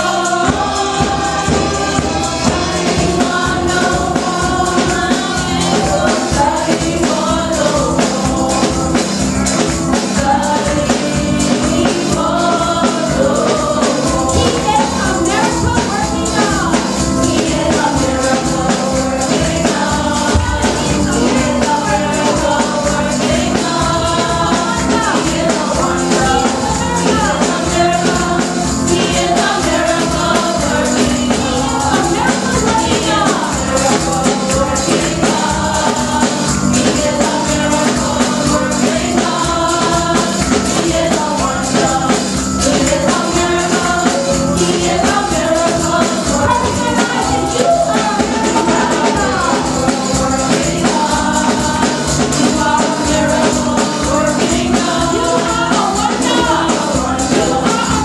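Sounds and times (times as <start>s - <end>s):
congregation singing gospel: 0.0s - 58.0s
instrumental backing: 0.0s - 58.0s
tambourines shaken and struck: 0.0s - 58.0s.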